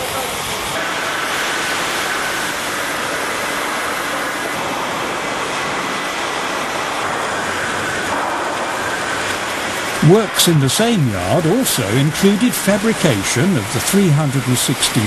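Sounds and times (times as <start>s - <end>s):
rushing hiss of workshop noise: 0.0s - 15.0s.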